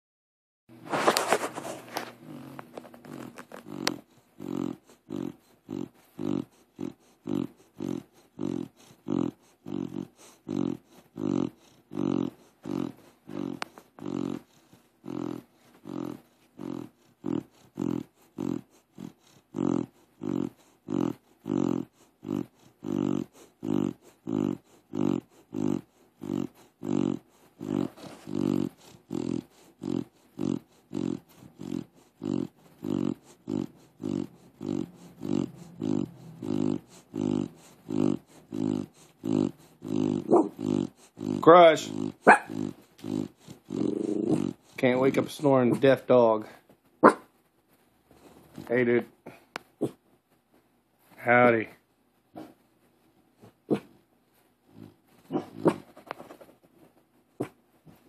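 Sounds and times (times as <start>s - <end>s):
dog snoring: 0.8s - 47.2s, 48.2s - 50.0s, 53.4s - 54.0s, 54.6s - 56.5s.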